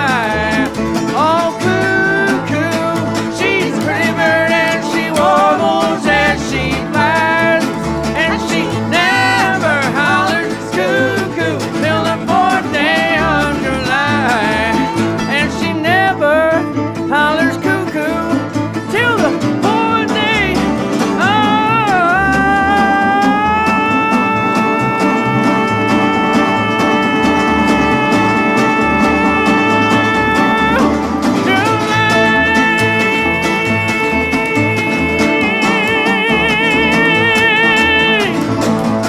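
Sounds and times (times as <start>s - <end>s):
plucked bass notes: 0.0s - 39.0s
sliding lead guitar notes: 0.0s - 39.0s
string band playing: 0.0s - 39.0s.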